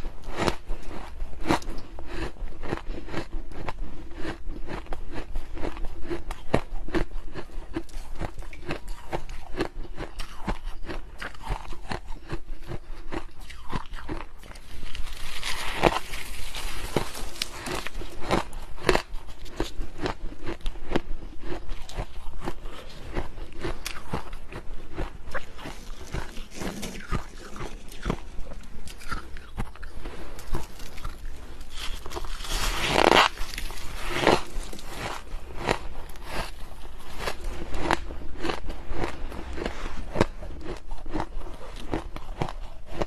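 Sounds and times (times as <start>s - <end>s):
frost being chewed crunching: 0.2s - 43.0s.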